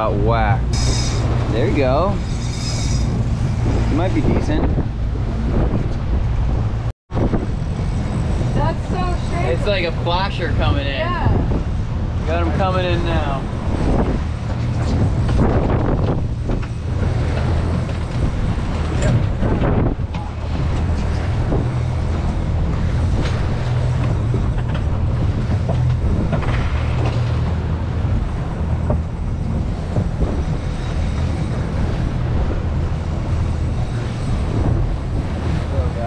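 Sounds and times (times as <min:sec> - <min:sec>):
outboard motors humming: 0:00.0 - 0:36.0
water rushing and splashing: 0:00.0 - 0:36.0
wind on microphone: 0:00.0 - 0:36.0.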